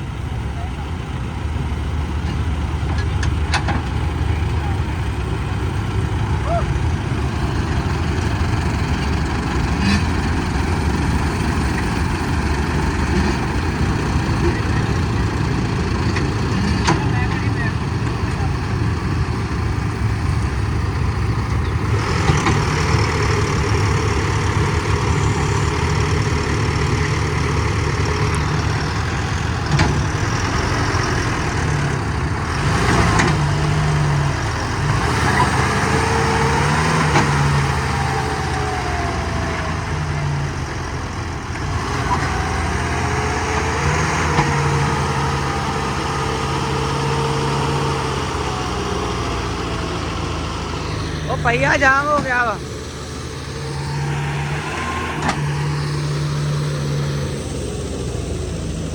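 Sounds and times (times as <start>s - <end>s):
diesel tractor engine revving: 0.0s - 58.9s.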